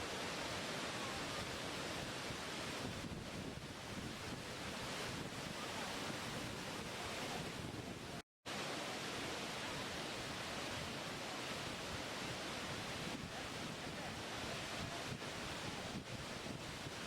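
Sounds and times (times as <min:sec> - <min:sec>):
rushing falling water: 0:00.0 - 0:17.0.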